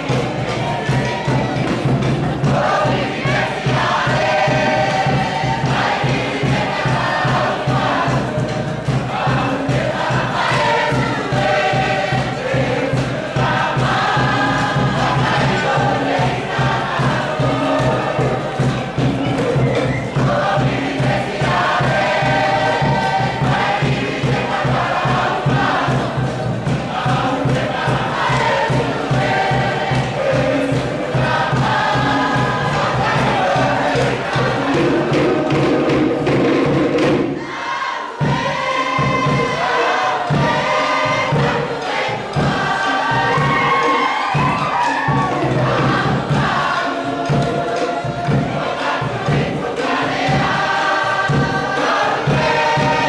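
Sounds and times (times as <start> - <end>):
group singing and chanting: 0.0 - 53.0
steady rhythmic beat: 0.0 - 53.0.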